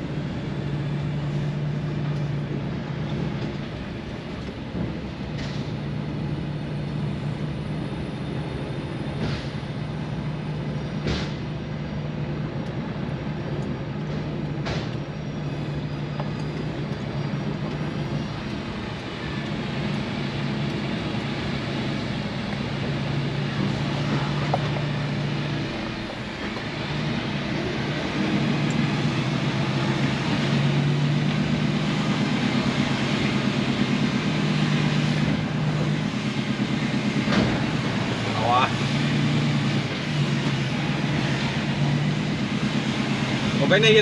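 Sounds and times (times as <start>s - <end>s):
diesel lorry engine from cab: 0.0s - 44.0s.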